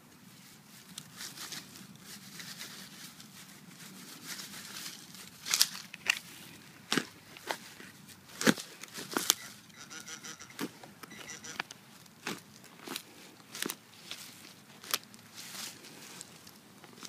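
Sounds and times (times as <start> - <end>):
hand digging through grass and soil: 0.1 - 9.4, 11.4 - 17.0.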